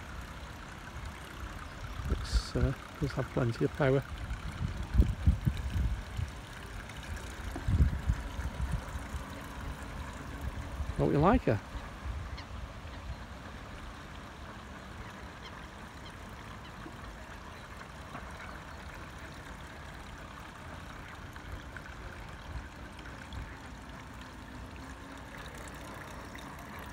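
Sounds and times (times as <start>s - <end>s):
faint electric motor hum: 0.0s - 26.9s
paddle wheels splashing in water: 0.0s - 26.9s.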